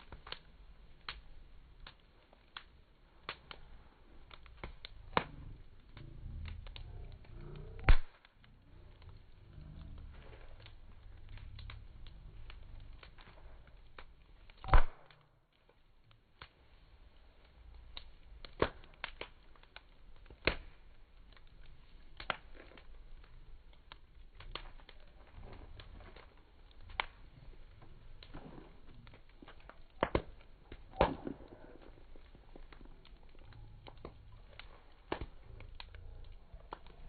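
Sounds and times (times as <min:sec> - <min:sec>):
low rumbling haze: 0:00.0 - 0:14.7, 0:16.6 - 0:37.0
campfire crackling and popping: 0:00.0 - 0:37.0.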